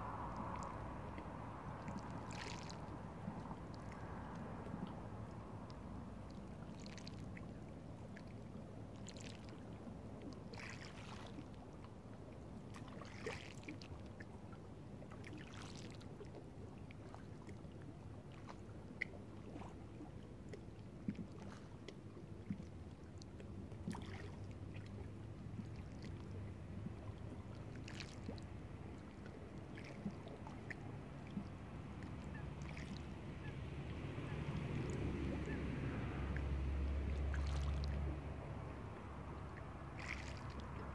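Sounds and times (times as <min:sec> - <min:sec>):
waves lapping on pebbles: 0:00.0 - 0:11.9, 0:12.6 - 0:40.9.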